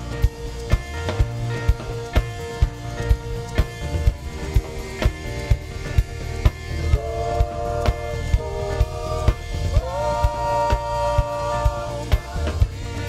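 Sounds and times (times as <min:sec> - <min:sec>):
bass guitar: 0:00.0 - 0:13.0
electric guitar: 0:00.0 - 0:13.0
held sliding chord notes: 0:00.0 - 0:13.0.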